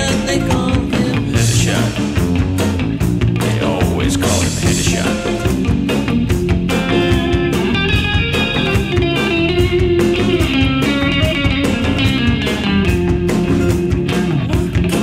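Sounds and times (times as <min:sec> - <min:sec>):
electric guitar rock song: 0:00.0 - 0:15.0.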